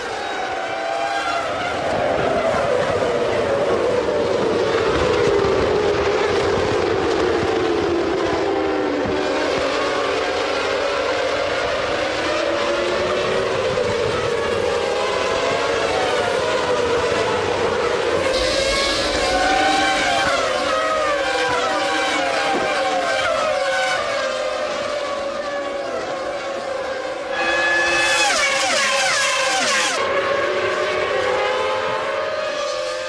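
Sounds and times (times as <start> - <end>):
racing engines at high revs: 0.0 - 33.0.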